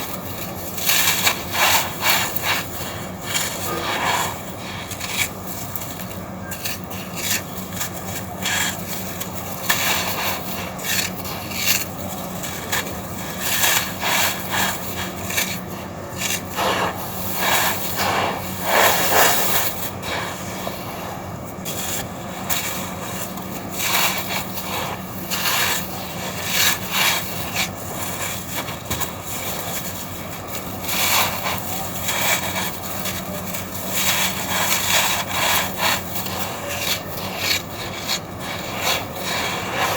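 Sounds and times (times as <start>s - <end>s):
gritty scraping and crunching: 0.0s - 39.9s.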